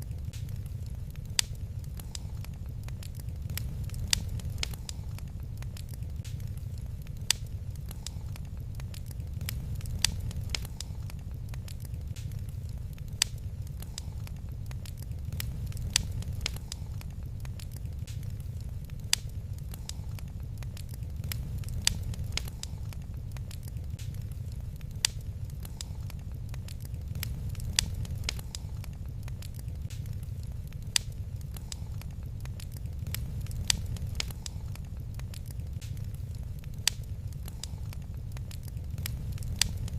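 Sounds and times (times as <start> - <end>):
sharp pops of fire: 0.0 - 39.9
wood fire crackling: 0.0 - 39.9.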